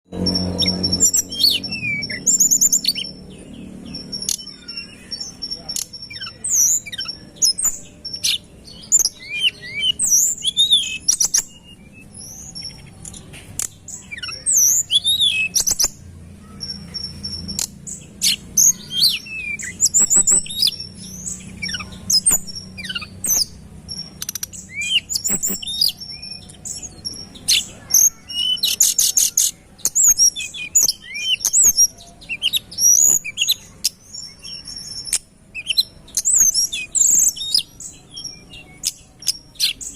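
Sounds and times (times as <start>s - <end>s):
songbird chirping: 0.1s - 39.9s.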